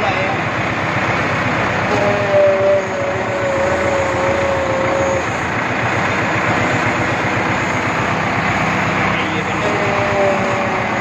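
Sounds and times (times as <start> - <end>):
hydraulic whine: 0.0 - 11.0
tractor diesel engine running: 0.0 - 11.0.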